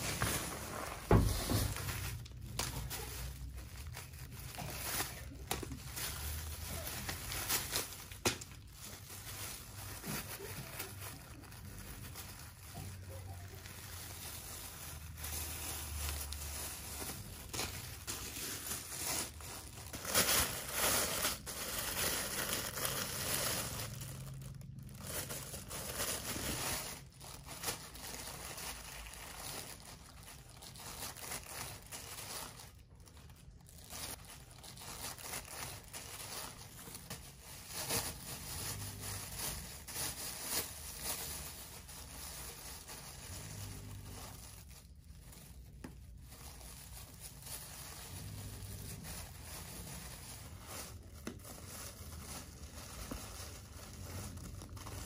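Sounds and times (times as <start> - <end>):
plastic bags crinkling: 0.0 - 55.0.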